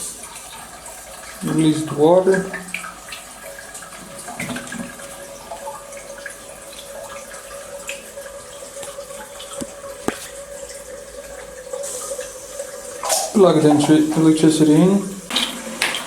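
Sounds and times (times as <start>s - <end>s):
water running through hoses: 0.0s - 16.0s.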